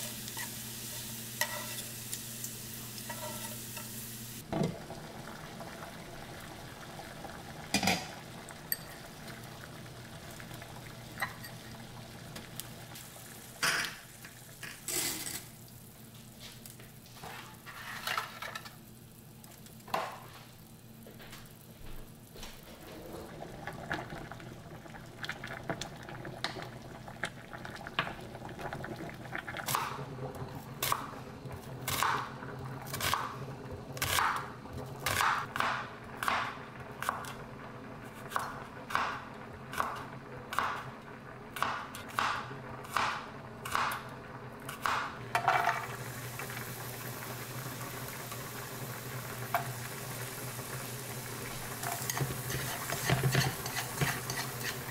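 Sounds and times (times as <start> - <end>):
garlic sizzling in oil: 0.0 - 22.6, 24.5 - 54.9.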